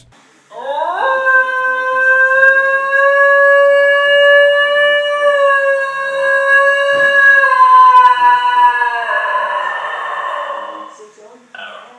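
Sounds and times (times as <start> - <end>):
dog howling: 0.5 - 11.9.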